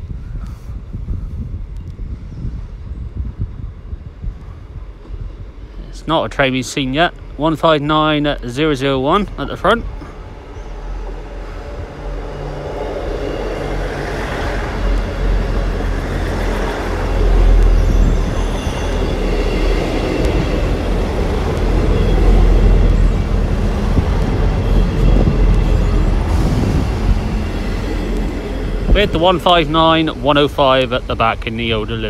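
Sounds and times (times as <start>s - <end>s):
diesel train passing: 0.8s - 32.0s.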